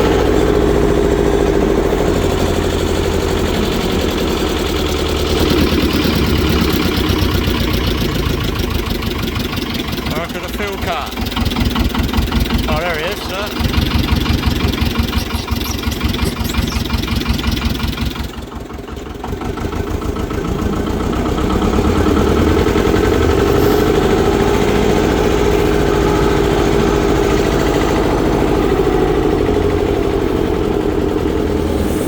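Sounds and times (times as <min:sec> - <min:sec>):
heavy machinery engine revving: 0:00.0 - 0:32.0.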